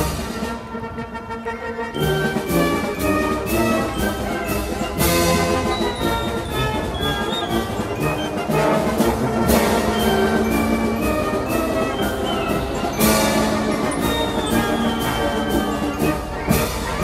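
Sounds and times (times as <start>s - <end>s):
orchestral music: 0.0s - 17.0s.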